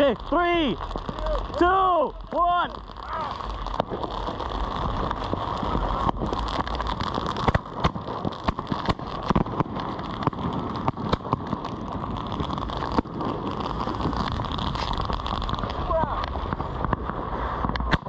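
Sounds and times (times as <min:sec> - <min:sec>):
fireworks hissing: 0:00.0 - 0:18.0
fireworks popping and crackling: 0:00.0 - 0:18.0.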